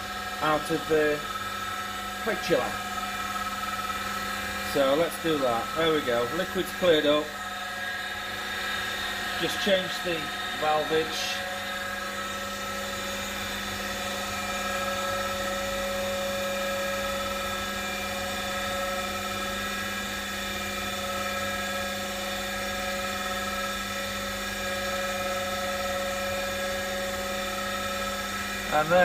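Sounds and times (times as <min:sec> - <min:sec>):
pump humming: 0:00.0 - 0:29.0.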